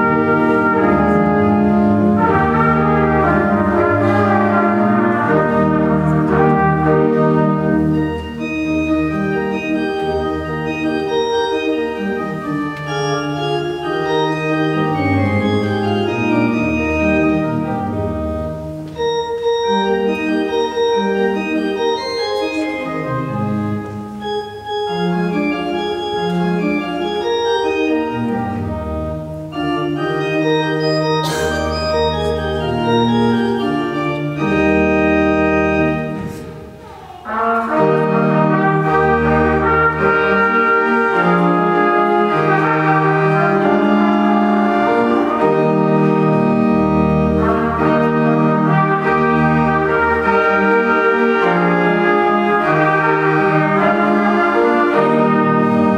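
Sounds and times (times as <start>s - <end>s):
church organ chords: 0.0s - 55.9s
trumpet melody: 0.0s - 55.9s.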